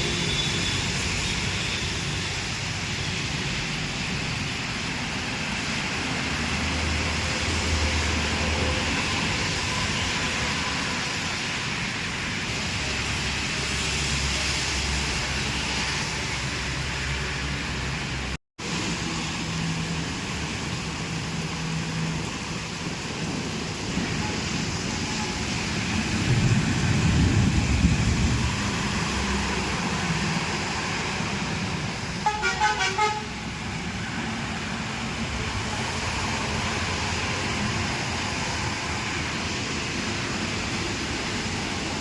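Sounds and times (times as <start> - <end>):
rain falling: 0.9 - 32.3, 33.3 - 42.0.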